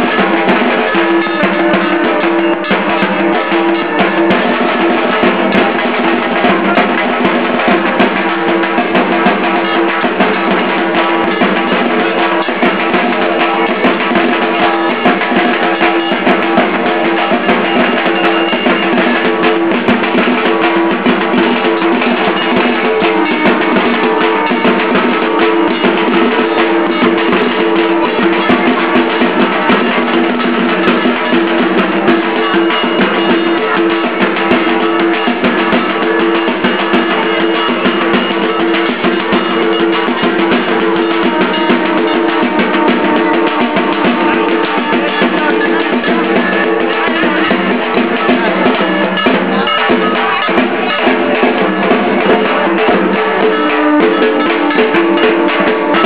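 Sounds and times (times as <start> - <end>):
drum-led music: 0.0 - 56.0.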